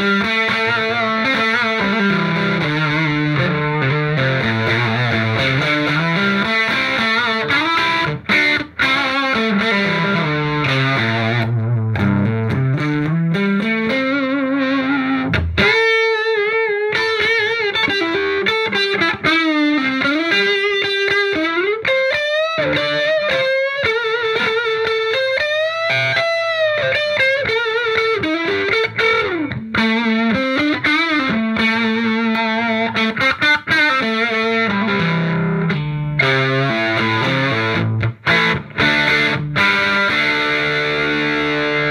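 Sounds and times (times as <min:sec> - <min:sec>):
overdriven electric guitar: 0:00.0 - 0:41.9.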